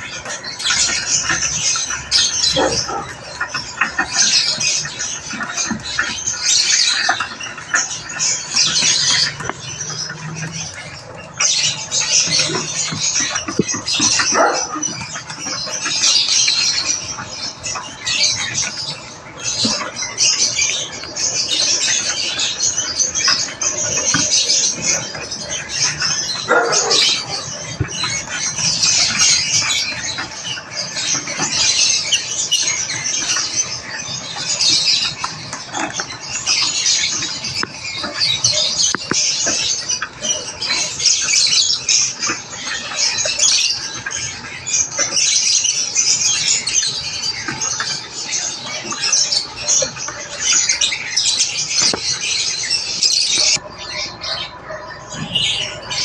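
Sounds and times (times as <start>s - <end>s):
lovebirds squawking and chirping: 0.0s - 56.0s.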